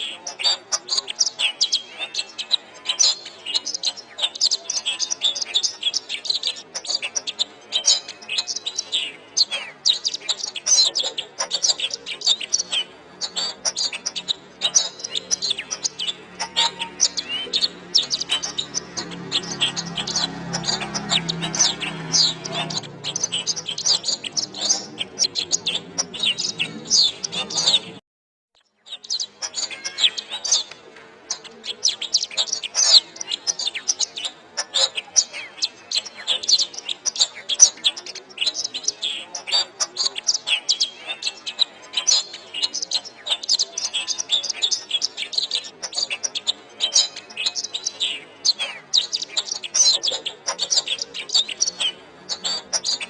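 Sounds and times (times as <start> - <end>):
canary singing: 0.0 - 28.0, 28.6 - 53.0.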